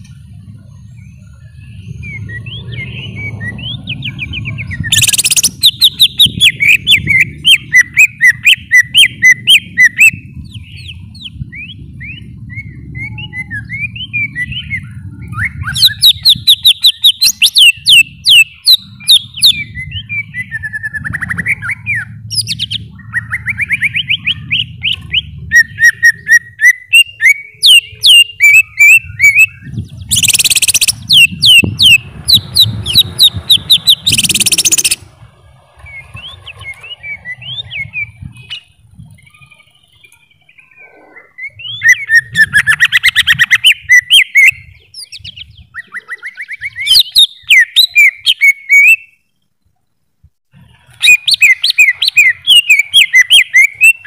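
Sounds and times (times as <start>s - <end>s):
bird chirping and whistling: 0.6s - 35.1s, 35.8s - 49.2s, 51.0s - 54.0s.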